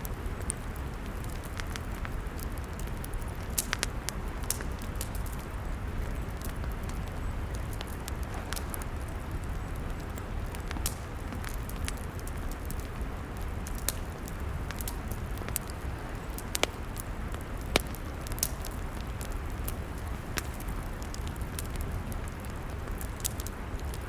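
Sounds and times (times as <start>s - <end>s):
campfire crackling: 0.0s - 24.0s
fire pops and snaps: 0.0s - 24.0s.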